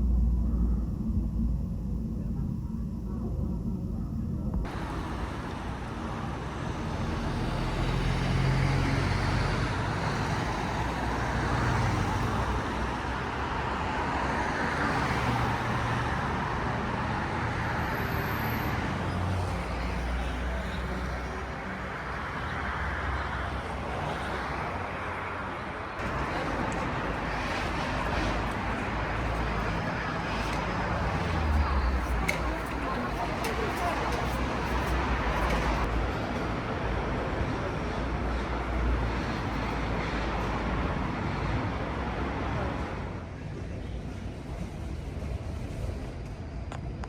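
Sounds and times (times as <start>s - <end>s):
passing cars: 4.6s - 46.0s.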